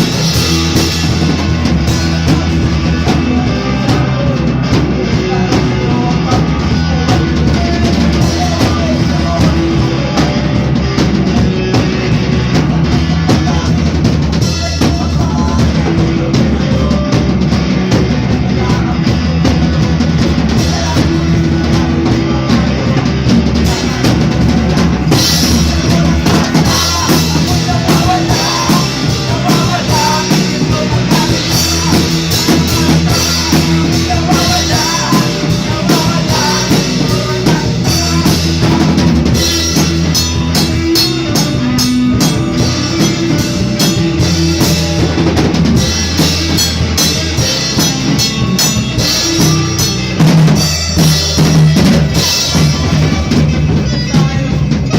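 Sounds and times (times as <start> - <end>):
band jamming: 0.0 - 54.9
drum kit beat: 0.0 - 54.9.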